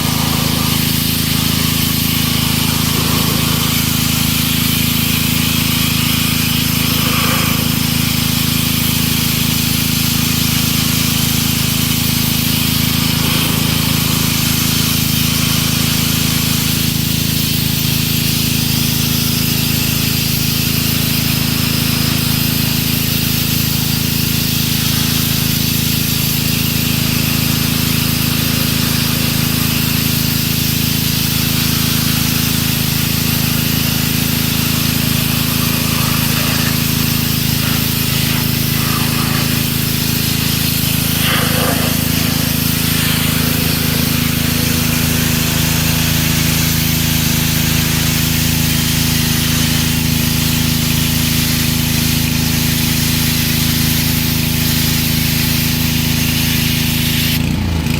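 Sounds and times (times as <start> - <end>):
pressure washer motor and pump: 0.0 - 57.9
water jet hissing on concrete: 0.0 - 57.9.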